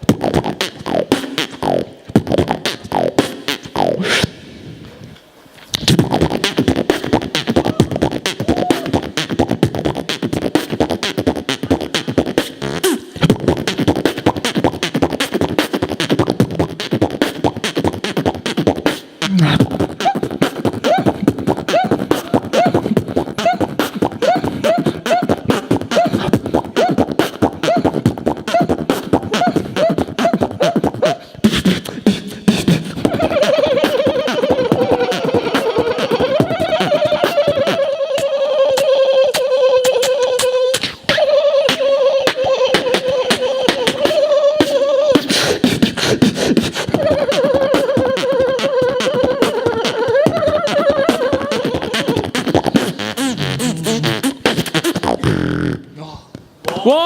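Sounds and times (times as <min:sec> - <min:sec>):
person beatboxing: 0:00.0 - 0:57.0.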